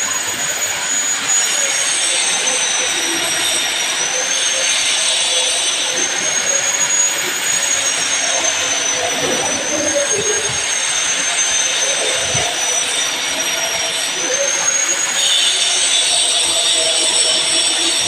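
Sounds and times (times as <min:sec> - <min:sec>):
high-pitched whine: 0:00.0 - 0:18.0
metal lathe running: 0:00.0 - 0:18.0.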